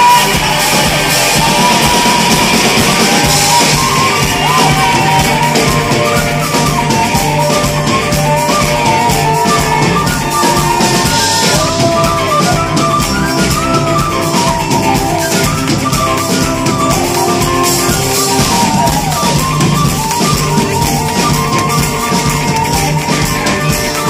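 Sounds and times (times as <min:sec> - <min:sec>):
live folk band playing: 0:00.0 - 0:24.0
tin whistle melody: 0:00.0 - 0:24.0.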